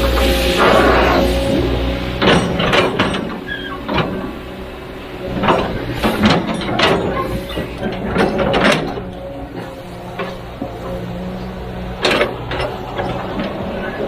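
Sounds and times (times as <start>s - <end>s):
heavy machine engine running: 0.0s - 14.0s
metallic clanks and knocks: 0.0s - 14.0s.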